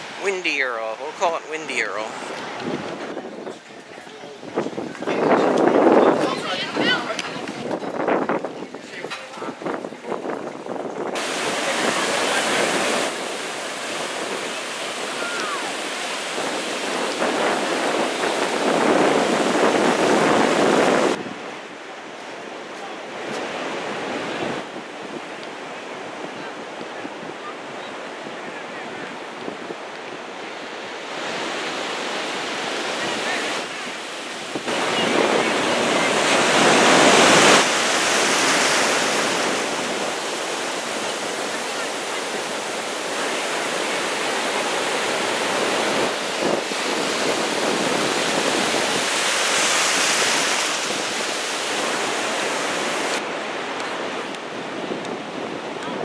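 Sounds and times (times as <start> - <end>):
ocean surf breaking: 0.0 - 56.0
wind buffeting microphone: 2.1 - 21.8, 23.1 - 56.0.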